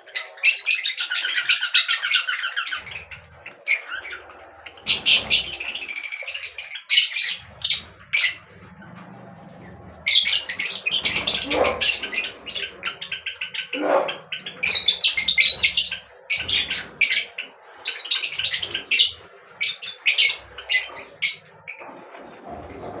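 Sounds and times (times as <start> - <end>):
low squawk-like bird calls: 0.0 - 23.0
small birds chirping: 0.0 - 23.0.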